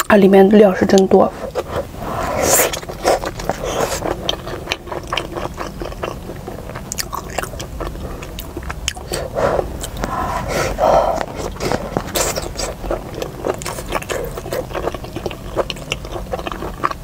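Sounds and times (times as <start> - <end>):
person chewing with mouth noises: 0.8 - 17.0.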